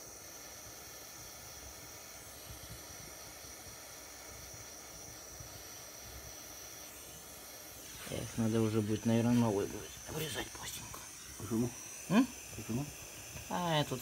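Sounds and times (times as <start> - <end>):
butane torch hissing: 0.0 - 14.0.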